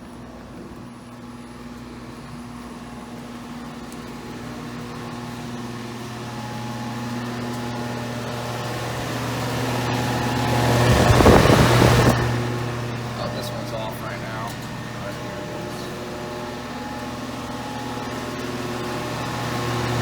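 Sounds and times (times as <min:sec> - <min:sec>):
compressor hum: 0:00.0 - 0:20.0
fan rushing air: 0:00.0 - 0:20.0.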